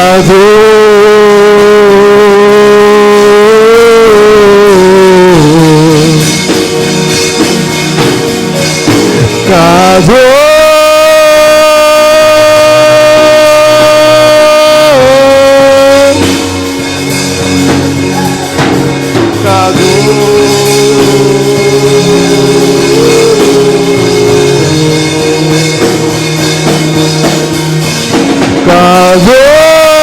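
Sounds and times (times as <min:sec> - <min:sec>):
instrumental backing with drum beat: 0:00.0 - 0:30.0
worship singing with sliding notes: 0:00.0 - 0:30.0.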